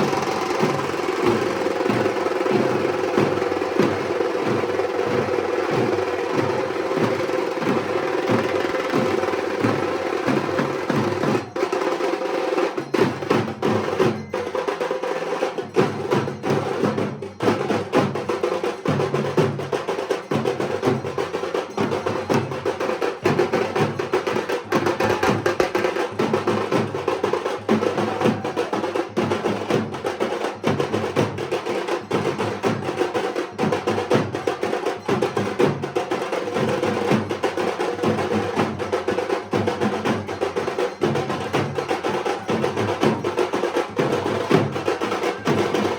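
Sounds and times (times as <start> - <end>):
drums played in fast strokes: 0.0 - 45.9.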